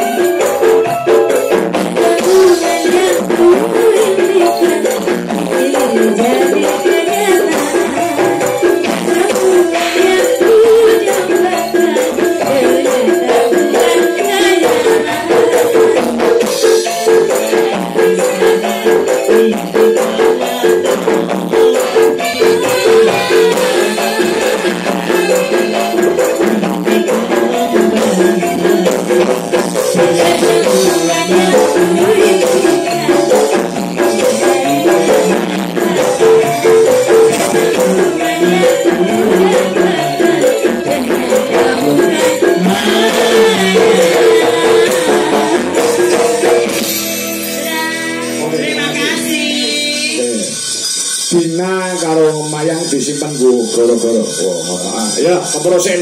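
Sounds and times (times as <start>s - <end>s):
women singing into microphones: 0.0s - 50.6s
amplified gamelan ensemble: 0.0s - 56.0s.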